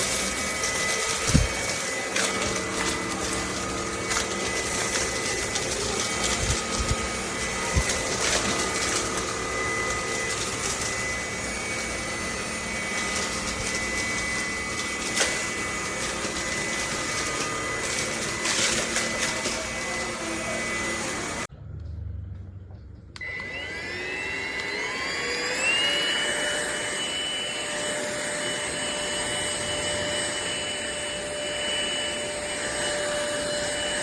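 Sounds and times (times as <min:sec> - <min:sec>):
stick vacuum cleaner whining: 0:00.0 - 0:21.5, 0:23.2 - 0:34.0.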